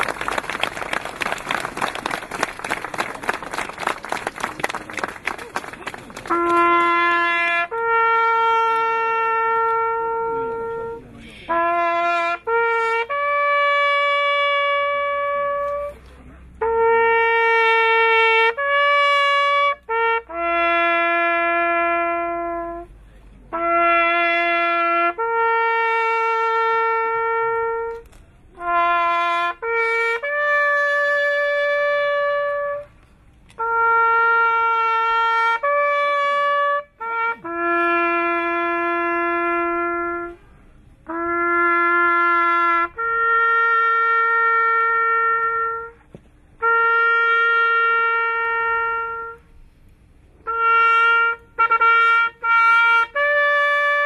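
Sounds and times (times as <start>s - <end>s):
solo trumpet playing: 6.2s - 54.0s.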